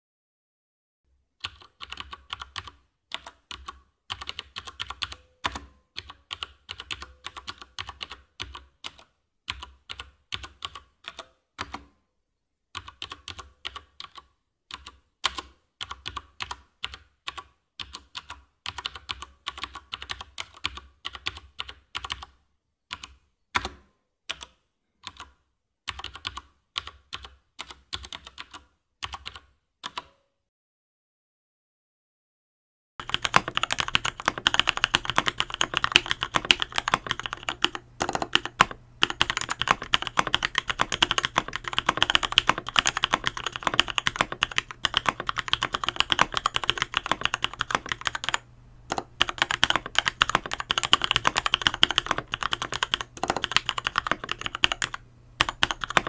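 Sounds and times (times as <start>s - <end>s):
mechanical keyboard typing: 1.4s - 11.9s, 12.8s - 23.7s, 25.9s - 30.2s, 33.0s - 56.0s.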